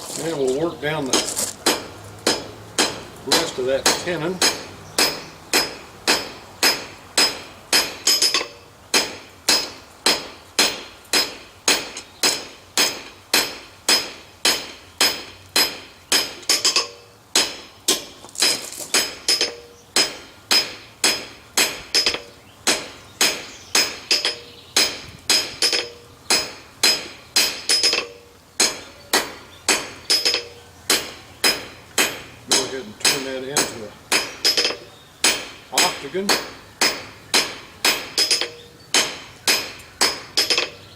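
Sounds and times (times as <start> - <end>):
hammer striking steel on anvil: 1.1 - 40.8.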